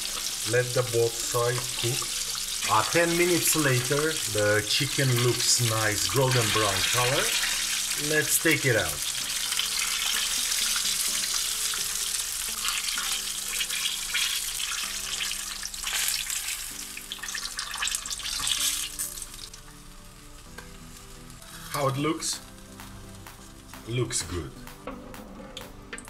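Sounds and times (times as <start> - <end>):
chicken deep-frying sizzle: 0.0 - 24.4.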